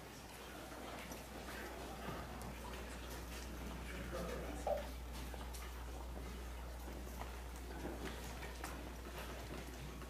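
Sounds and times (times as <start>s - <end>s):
faint clicks and taps: 0.8s - 10.0s.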